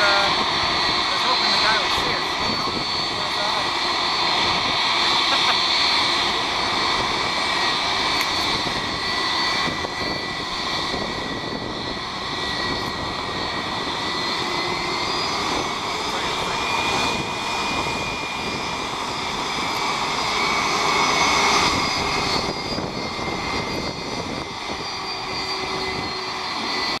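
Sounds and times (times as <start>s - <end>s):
jet engines idling: 0.0s - 27.0s.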